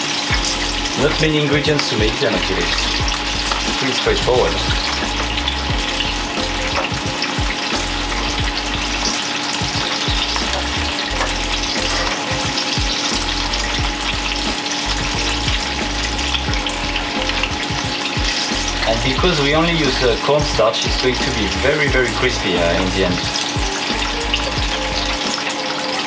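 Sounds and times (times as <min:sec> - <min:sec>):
batter deep-frying in hot oil: 0:00.0 - 0:26.0.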